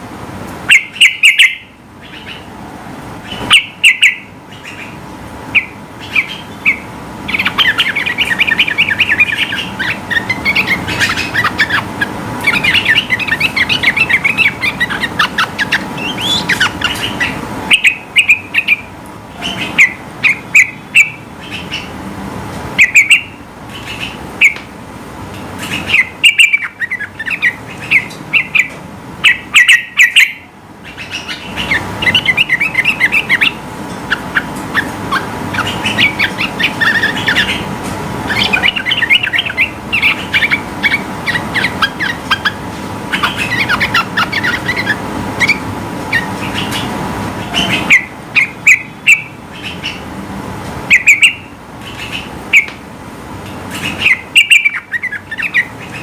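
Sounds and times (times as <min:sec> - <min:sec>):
faint steady hum: 0:00.0 - 0:56.0
bird chattering song: 0:00.7 - 0:02.5, 0:03.2 - 0:22.0, 0:22.8 - 0:24.7, 0:25.6 - 0:37.7, 0:38.3 - 0:50.1, 0:50.9 - 0:52.8, 0:53.7 - 0:56.0.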